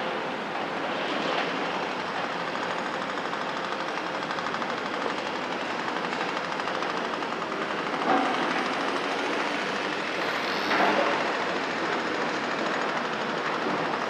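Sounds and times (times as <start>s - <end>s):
excavator diesel engine clattering: 1.8s - 14.0s.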